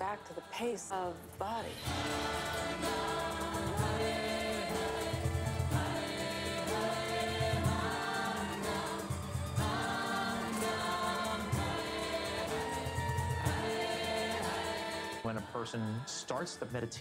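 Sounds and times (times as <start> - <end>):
instrumental accompaniment: 1.7 - 17.0
group chanting: 1.8 - 16.3.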